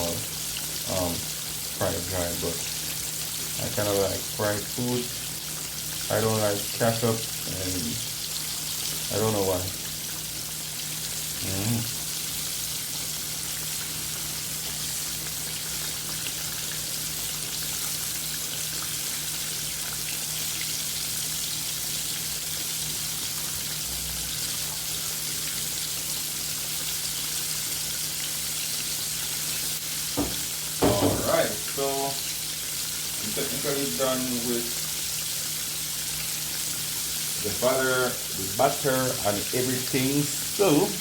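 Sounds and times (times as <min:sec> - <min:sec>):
food sizzling in hot oil: 0:00.0 - 0:41.0.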